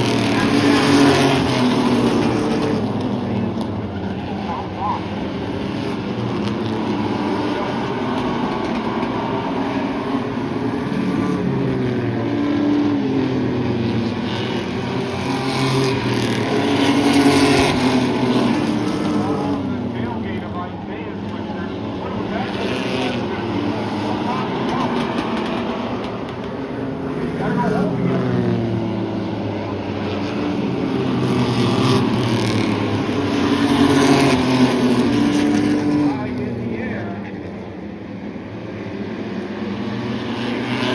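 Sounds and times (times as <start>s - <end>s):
race truck engines: 0.0s - 40.9s.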